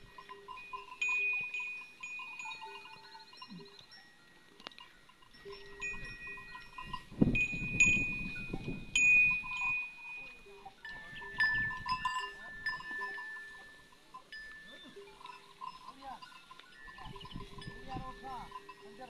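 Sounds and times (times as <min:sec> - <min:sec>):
cattle bells clanking and ringing: 0:00.0 - 0:19.0.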